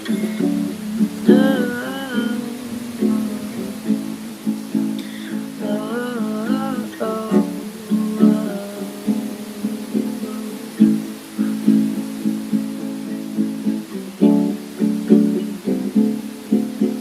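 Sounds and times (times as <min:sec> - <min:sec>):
acoustic guitar strumming chords: 0:00.0 - 0:17.0
rain hiss: 0:00.0 - 0:17.0
wordless singing with vibrato: 0:00.0 - 0:17.0.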